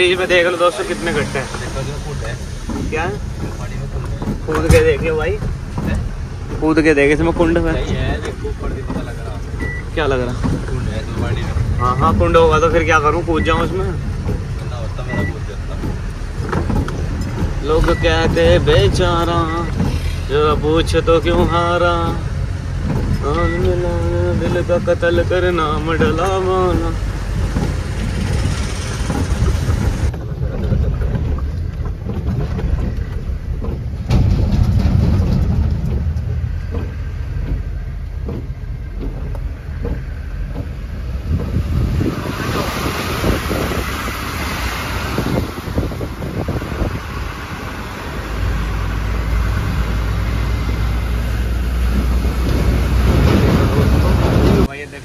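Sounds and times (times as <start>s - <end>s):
tyres hissing on wet road: 0.0s - 30.2s, 31.3s - 55.0s
truck engine and road rumble: 0.0s - 55.0s
knocks and rattles in truck cab: 1.0s - 54.9s.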